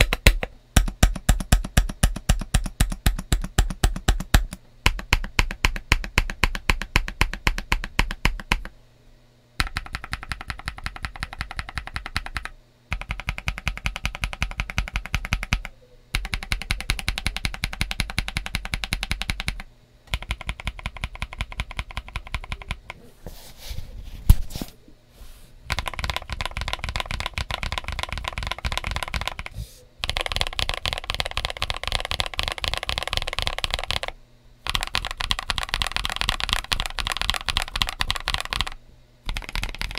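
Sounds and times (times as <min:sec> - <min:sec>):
rapid keyboard typing: 0:00.0 - 0:08.7, 0:09.6 - 0:23.0, 0:25.7 - 0:39.9.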